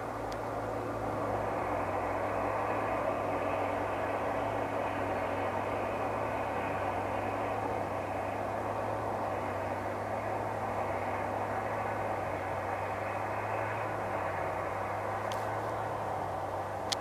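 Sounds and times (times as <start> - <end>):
machinery drone with low hum: 0.0 - 17.0.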